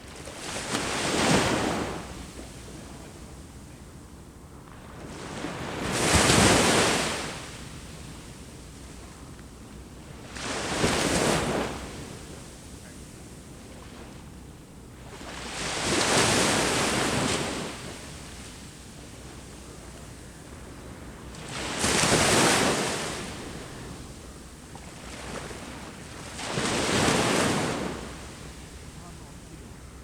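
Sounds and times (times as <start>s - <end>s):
sea waves breaking on shore: 0.0s - 3.2s, 4.7s - 8.8s, 10.1s - 14.2s, 15.1s - 30.0s
low hiss of surf: 0.0s - 30.0s.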